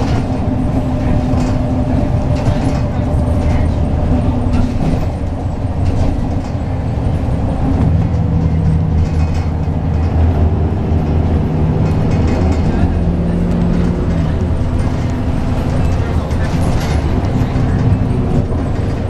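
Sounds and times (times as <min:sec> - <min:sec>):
bus diesel engine running: 0:00.0 - 0:19.0
road noise: 0:00.0 - 0:19.0.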